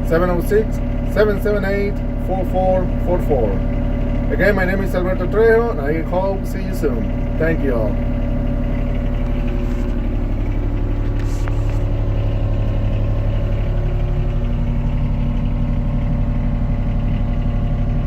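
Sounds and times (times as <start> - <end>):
excavator diesel engine idling: 0.0 - 18.0.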